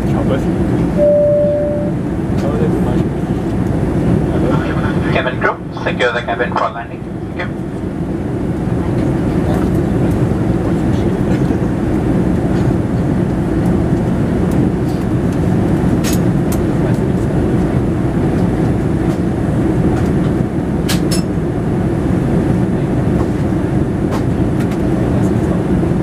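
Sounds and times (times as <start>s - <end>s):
airplane cabin engine roar: 0.0s - 26.0s.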